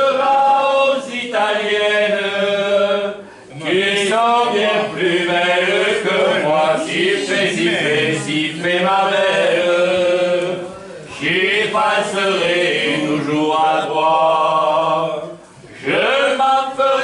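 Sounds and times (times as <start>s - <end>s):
voices singing a chant: 0.0s - 17.0s.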